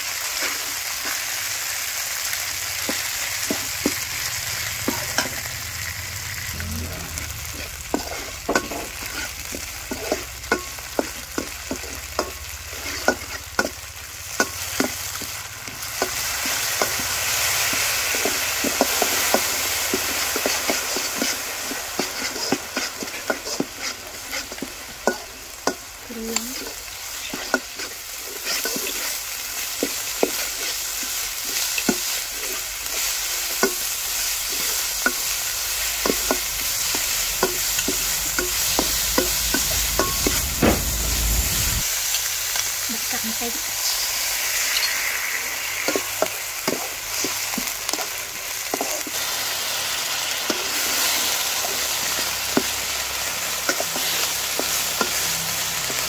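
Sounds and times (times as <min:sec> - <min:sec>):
spice paste sizzling in oil: 0:00.0 - 0:56.0
metal spatula scraping a wok: 0:00.2 - 0:49.0, 0:50.2 - 0:56.0.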